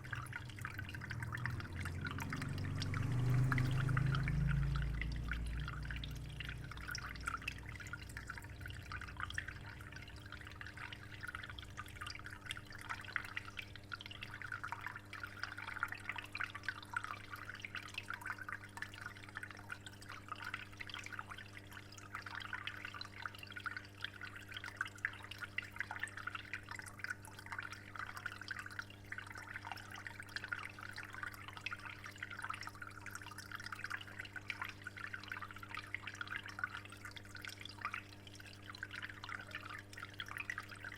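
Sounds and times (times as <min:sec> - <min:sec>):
low steady hum: 0:00.0 - 0:40.9
water trickling and dripping: 0:00.0 - 0:40.9.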